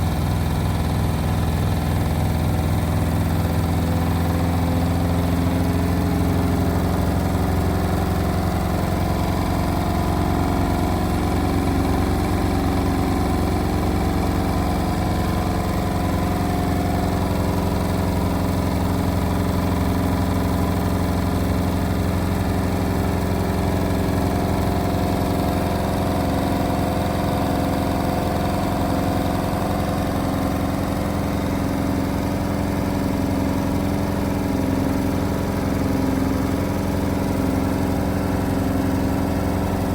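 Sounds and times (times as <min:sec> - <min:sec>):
washing machine spin drone: 0:00.0 - 0:39.9.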